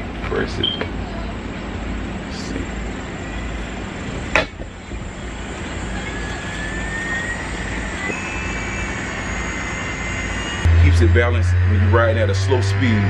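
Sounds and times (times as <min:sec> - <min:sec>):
gyro flywheel whirring whine: 0:00.0 - 0:13.0.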